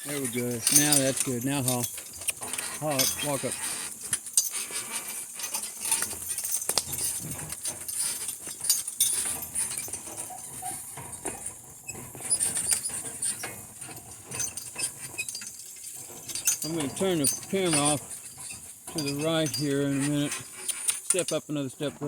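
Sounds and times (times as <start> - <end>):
cart rattling: 0.0 - 22.0
clatter of hooves: 0.0 - 22.0
jingling harness: 0.0 - 22.0.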